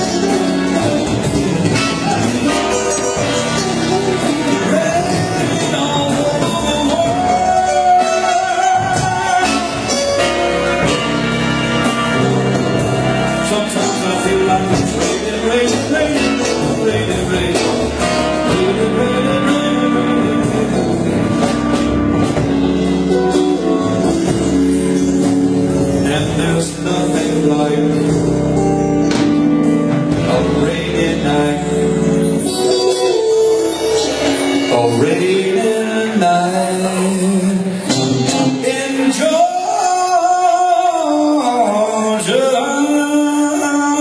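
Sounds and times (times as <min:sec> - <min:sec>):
man singing: 0:00.0 - 0:22.4, 0:25.8 - 0:44.0
guitar accompaniment: 0:00.0 - 0:44.0.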